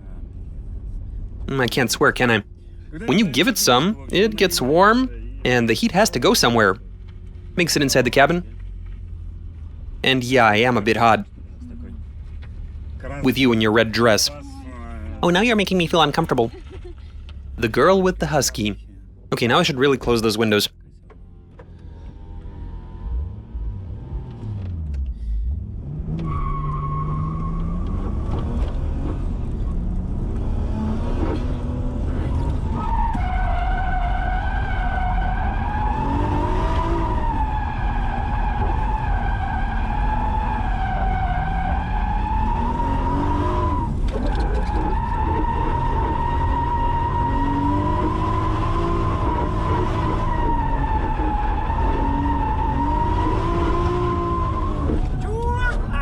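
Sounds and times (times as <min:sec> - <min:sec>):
car engine revving: 0:00.0 - 0:56.0
tires squealing: 0:01.4 - 0:56.0.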